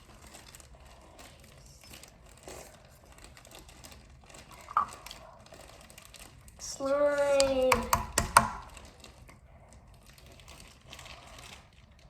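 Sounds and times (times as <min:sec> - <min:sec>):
crinkling handling noise: 0:00.0 - 0:12.0.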